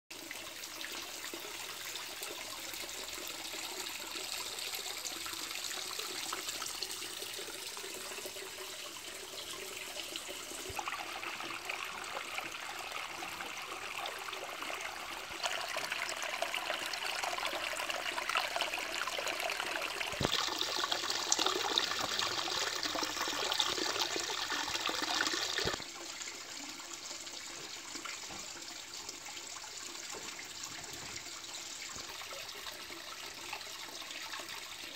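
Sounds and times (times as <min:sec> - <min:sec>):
water trickling into pond: 0:00.1 - 0:34.9.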